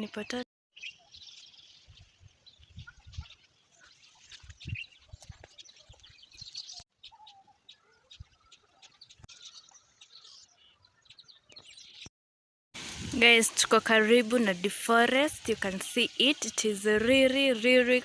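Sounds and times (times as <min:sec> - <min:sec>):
small birds chirping: 0:00.0 - 0:12.1, 0:13.0 - 0:18.0.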